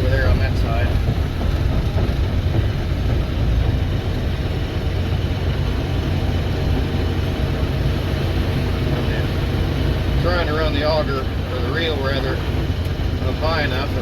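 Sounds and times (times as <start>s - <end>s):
combine harvester engine rumble: 0.0s - 14.0s
threshing machinery noise: 0.0s - 14.0s.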